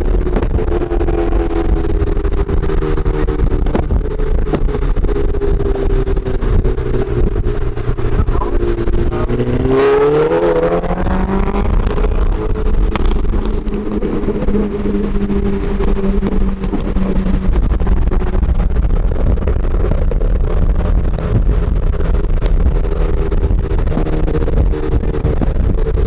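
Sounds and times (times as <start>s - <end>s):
car engine drone: 0.0s - 26.0s
car engine revving up: 0.0s - 26.0s
exhaust pops: 0.0s - 26.0s
road and wind rumble: 0.0s - 26.0s.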